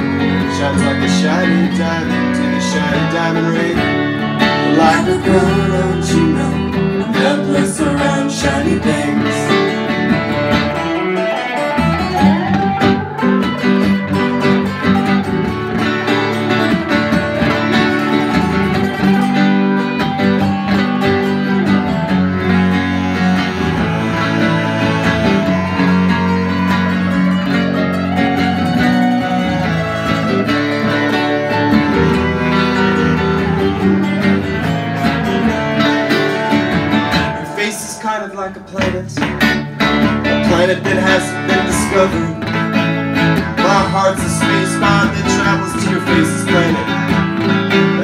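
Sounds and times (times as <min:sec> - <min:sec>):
bass clarinet: 0:00.0 - 0:38.0, 0:39.2 - 0:48.0
electric guitar: 0:00.0 - 0:48.0
plucked bouzouki: 0:00.0 - 0:48.0.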